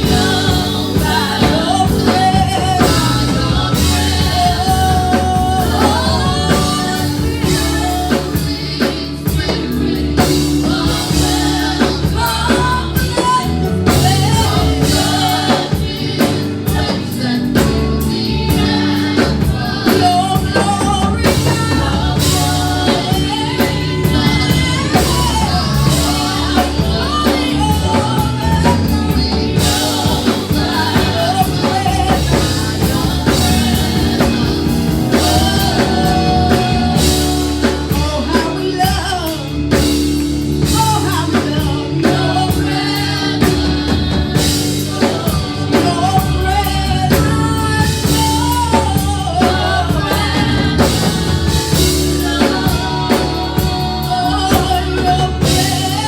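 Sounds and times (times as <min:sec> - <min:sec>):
band with drums and bass: 0:00.0 - 0:56.0
gospel singing: 0:00.0 - 0:56.0.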